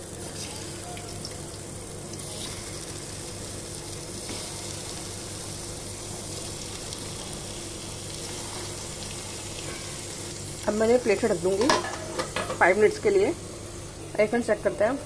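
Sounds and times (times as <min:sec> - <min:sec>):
tomatoes sizzling in hot oil: 0:00.0 - 0:15.0.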